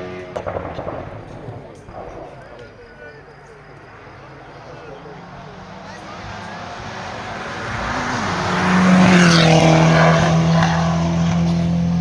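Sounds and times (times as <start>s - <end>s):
racing car accelerating past: 0.0s - 12.0s.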